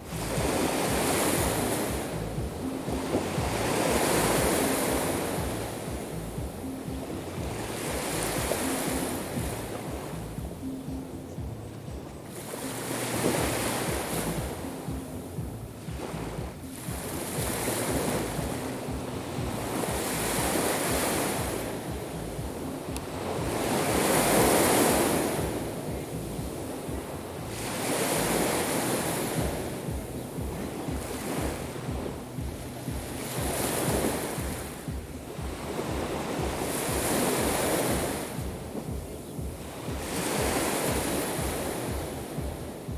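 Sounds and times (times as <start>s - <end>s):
waves breaking on shore: 0.0s - 42.9s.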